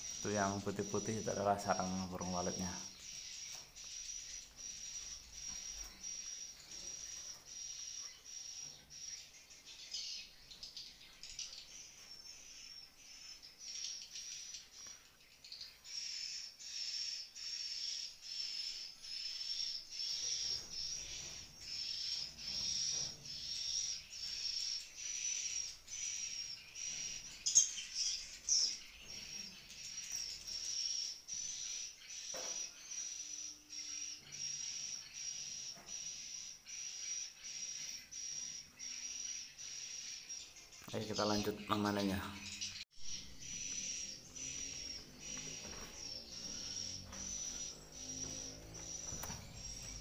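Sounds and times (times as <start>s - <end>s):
swiftlet twittering chirps: 0.0s - 50.0s.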